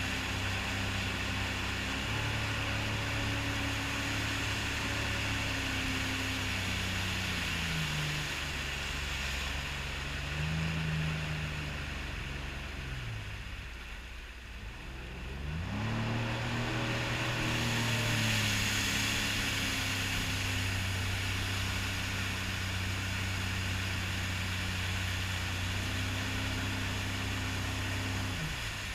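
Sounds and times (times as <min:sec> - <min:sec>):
rushing water and wind: 0:00.0 - 0:28.9
watercraft engine running: 0:00.0 - 0:28.9.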